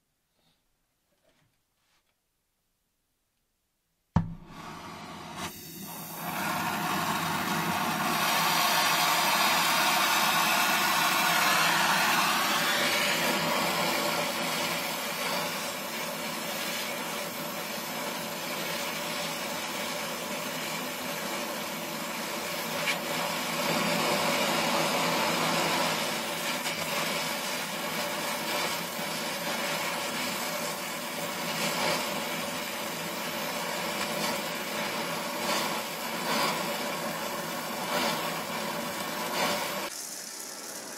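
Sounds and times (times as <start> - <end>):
welding torch flame hissing: 4.2 - 40.9.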